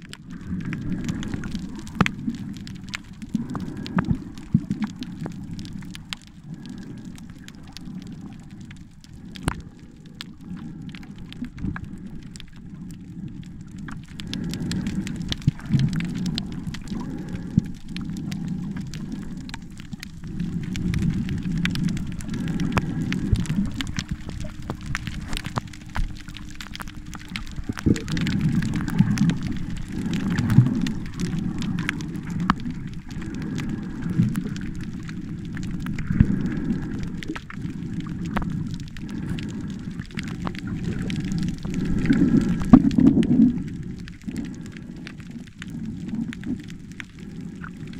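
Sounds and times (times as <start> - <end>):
muffled underwater rushing: 0.0 - 47.9
underwater crackling clicks: 0.0 - 47.9.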